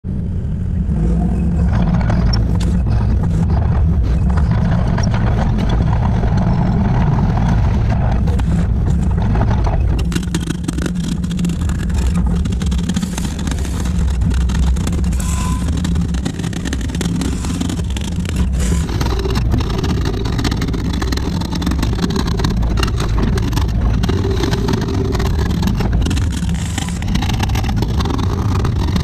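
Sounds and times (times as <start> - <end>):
excavator engine running: 0.1 - 29.0.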